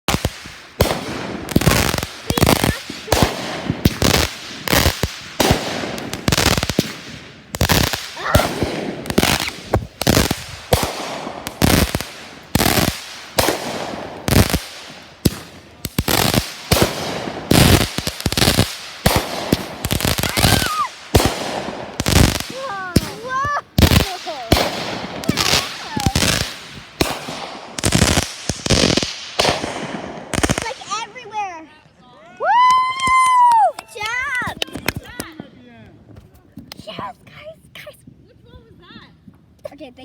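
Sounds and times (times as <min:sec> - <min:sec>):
fireworks banging: 0:00.0 - 0:31.6, 0:32.6 - 0:35.6.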